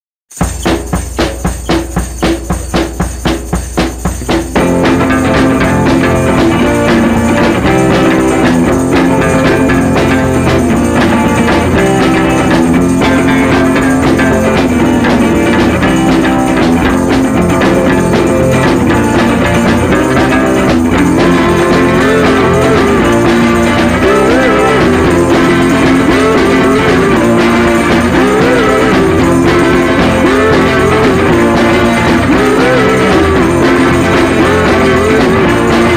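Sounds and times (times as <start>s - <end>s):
background music: 4.5s - 35.9s.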